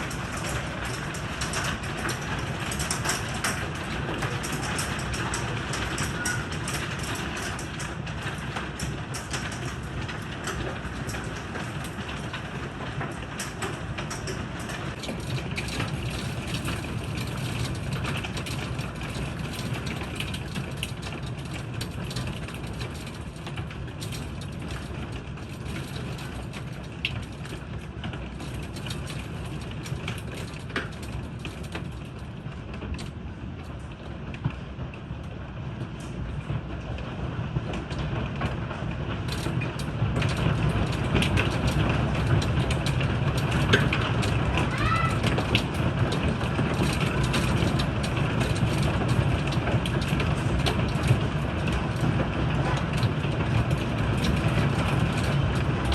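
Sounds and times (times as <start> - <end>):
hailstones clicking on surfaces: 0.0 - 55.9
rain rushing: 0.0 - 55.9.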